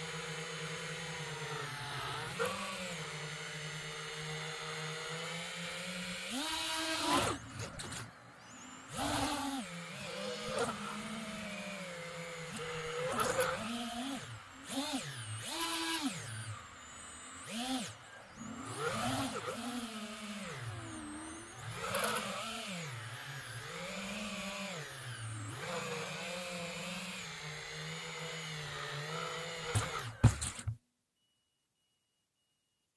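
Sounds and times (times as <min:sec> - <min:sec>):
quadcopter motors whining: 0:00.0 - 0:30.8.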